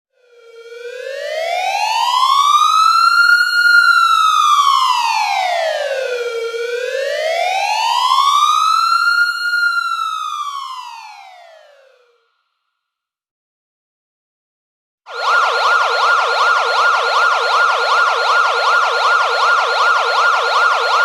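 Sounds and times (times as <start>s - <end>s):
emergency siren wailing: 0.2s - 12.2s, 15.1s - 21.0s.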